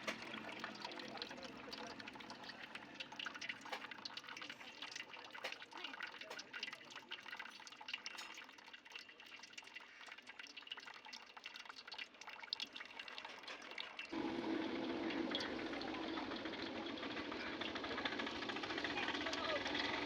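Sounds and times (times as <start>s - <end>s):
liquid dripping and trickling: 0.0s - 20.0s.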